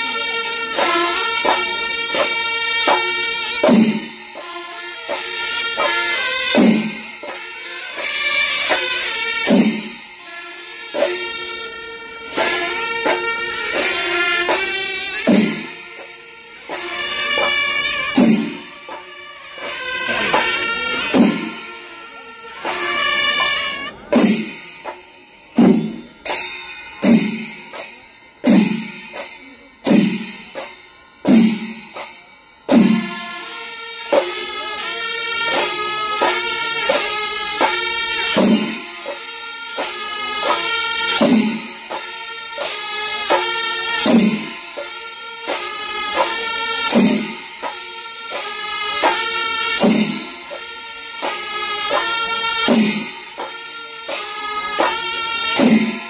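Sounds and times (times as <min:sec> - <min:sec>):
heavy drum strikes: 0:00.8 - 0:04.6, 0:05.2 - 0:07.6, 0:08.7 - 0:10.0, 0:12.3 - 0:21.9, 0:22.6 - 0:29.2, 0:29.8 - 0:33.2, 0:35.4 - 0:53.7, 0:54.4 - 0:56.0.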